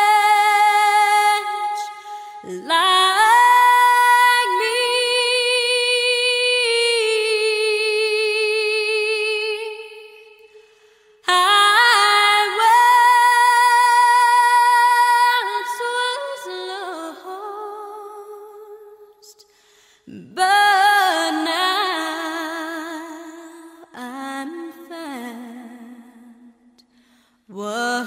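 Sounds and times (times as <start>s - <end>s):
woman singing with vibrato: 0.0s - 10.6s, 11.2s - 19.3s, 20.1s - 26.6s, 27.5s - 28.0s.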